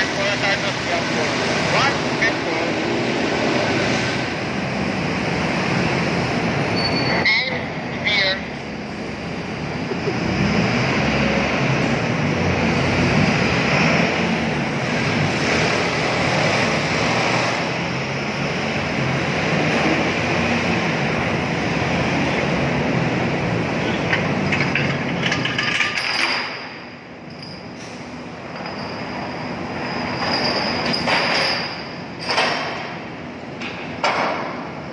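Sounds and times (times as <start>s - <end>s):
loud steady rush of noise: 0.0s - 34.9s.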